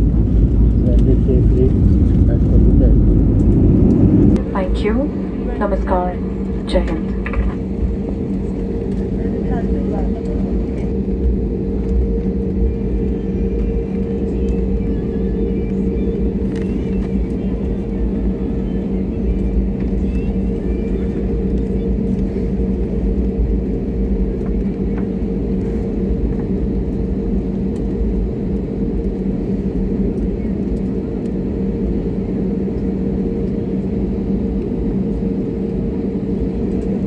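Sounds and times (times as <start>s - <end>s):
constant low hums: 0.0s - 37.0s
jet engines rumbling: 0.0s - 37.0s.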